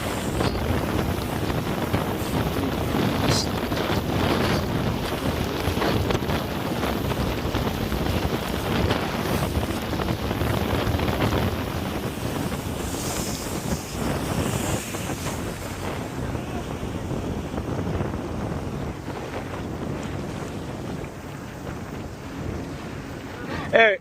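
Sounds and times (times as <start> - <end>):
jet ski running over water: 0.0 - 24.0
wind buffeting microphone: 0.0 - 24.0.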